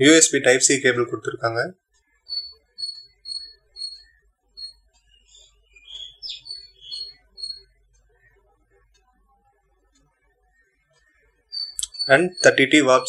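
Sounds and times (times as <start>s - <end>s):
faint low hum: 0.0s - 13.0s
small bird chirping: 1.9s - 13.0s.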